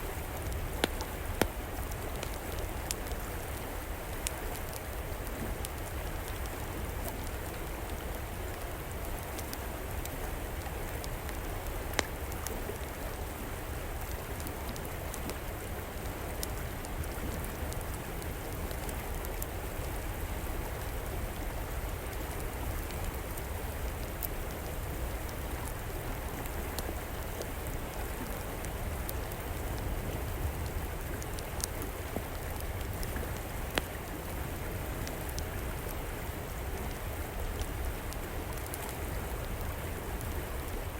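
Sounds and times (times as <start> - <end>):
river flowing: 0.0 - 40.9
wood fire crackling: 0.0 - 40.9.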